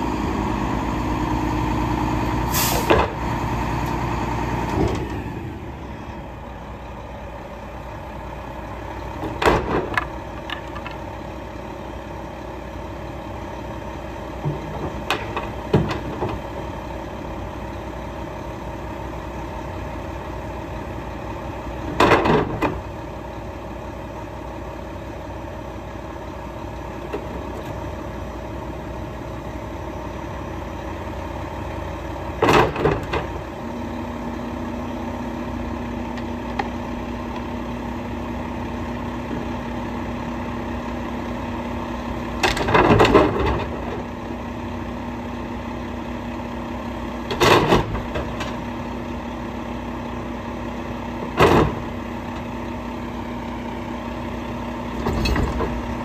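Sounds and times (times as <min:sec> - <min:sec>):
diesel truck engine idling: 0:00.0 - 0:22.0, 0:22.6 - 0:42.5, 0:43.1 - 0:56.0.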